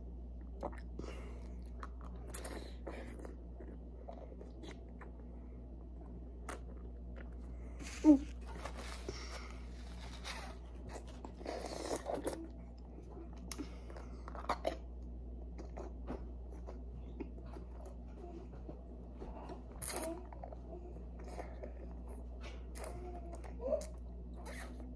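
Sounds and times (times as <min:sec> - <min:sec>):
low steady hum: 0:00.0 - 0:24.9
child chewing: 0:00.4 - 0:18.4, 0:19.3 - 0:24.9.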